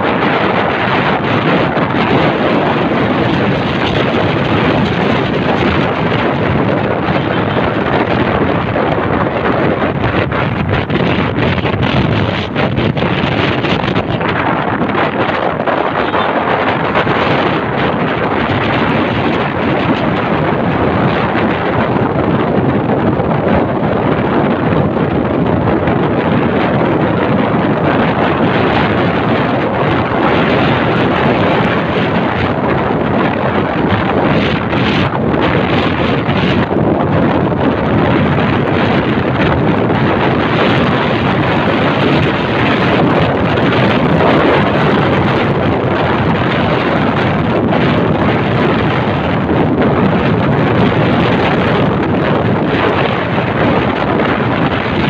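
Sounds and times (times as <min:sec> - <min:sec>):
motorcycle engine: 0:00.0 - 0:55.0
road noise: 0:00.0 - 0:55.0
wind buffeting microphone: 0:00.0 - 0:55.0.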